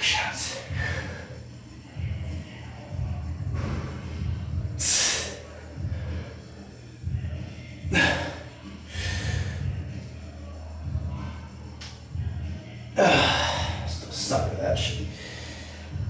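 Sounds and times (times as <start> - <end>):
background music with heavy bass: 0.0 - 16.0.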